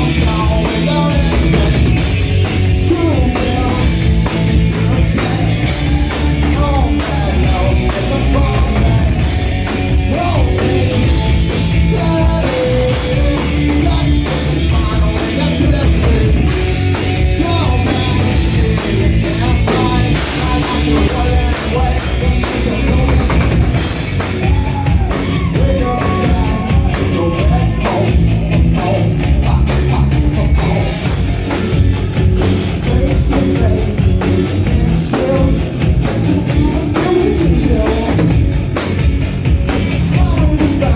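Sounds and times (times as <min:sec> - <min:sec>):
person singing: 0:00.0 - 0:31.2, 0:32.7 - 0:38.4, 0:40.0 - 0:40.9
drums: 0:00.0 - 0:40.9
live rock band: 0:00.0 - 0:40.9.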